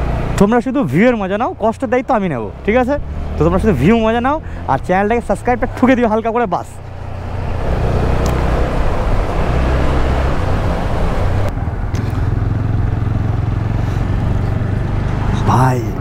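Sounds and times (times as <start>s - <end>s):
road and wind noise: 0.0s - 16.0s
motorcycle engine running: 2.4s - 16.0s.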